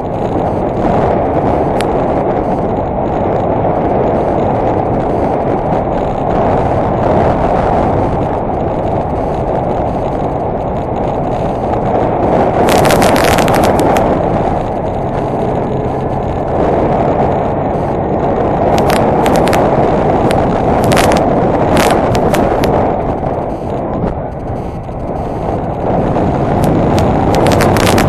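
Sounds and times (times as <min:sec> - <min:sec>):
crackling rattle: 0:00.0 - 0:28.0
motorcycle engine: 0:00.0 - 0:28.0
wind and road noise: 0:00.0 - 0:28.0.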